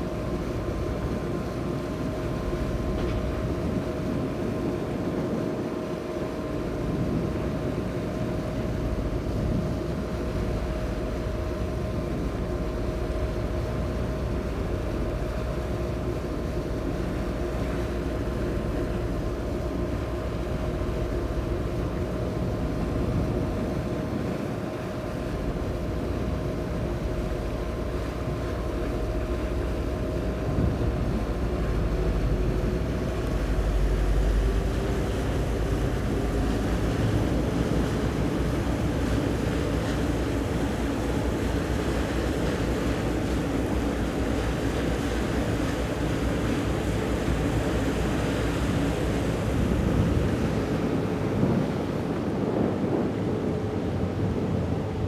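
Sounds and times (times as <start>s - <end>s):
ship engines droning: 0.0s - 55.0s
wind rumble on microphone: 0.0s - 55.0s.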